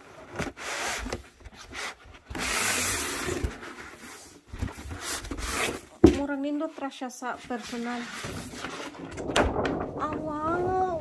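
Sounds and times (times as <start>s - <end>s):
cardboard scraping: 0.0s - 6.7s, 7.4s - 11.0s.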